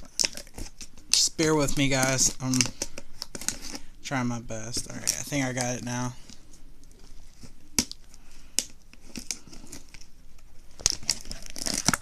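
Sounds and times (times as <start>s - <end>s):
packaging crinkling: 0.0s - 3.9s, 4.6s - 12.0s.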